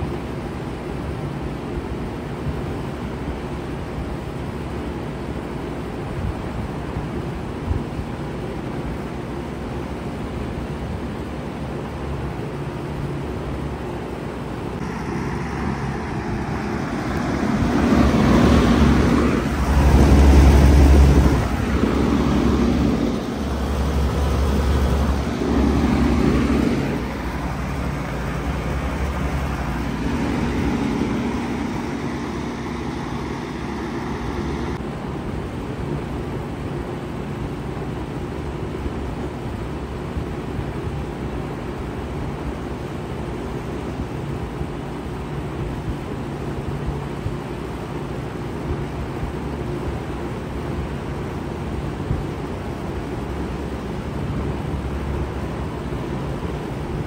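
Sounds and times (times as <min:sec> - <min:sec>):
condenser fan rushing: 0:00.0 - 0:57.0
heat pump compressor hum: 0:00.0 - 0:57.0.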